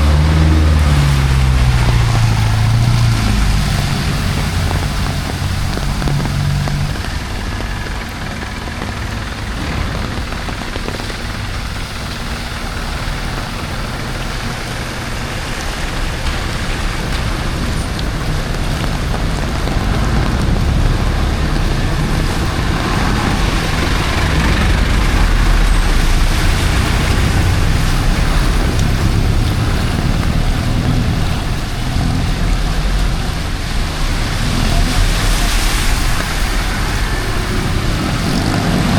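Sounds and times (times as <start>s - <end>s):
heavy rain hiss: 0.0s - 38.9s
traffic engine rumble: 0.0s - 38.9s.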